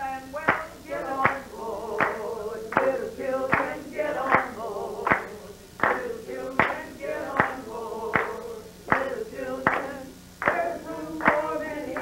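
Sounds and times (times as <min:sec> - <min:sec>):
voices singing a spiritual: 0:00.0 - 0:12.0
hand claps on the beat: 0:00.5 - 0:01.4, 0:02.0 - 0:04.5, 0:05.1 - 0:12.0.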